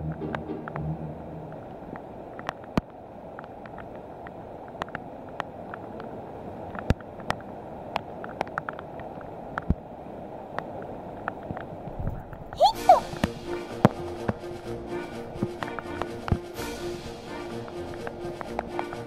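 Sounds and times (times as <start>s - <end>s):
raindrops ticking: 0.0s - 9.9s, 10.5s - 19.0s
rain falling on water: 0.0s - 19.0s.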